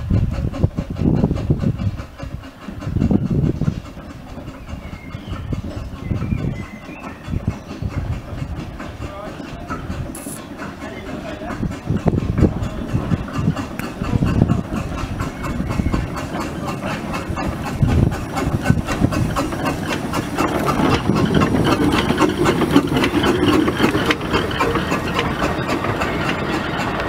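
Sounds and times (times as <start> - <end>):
steam locomotive steam: 0.0 - 27.0
wheels clicking on track: 0.0 - 27.0.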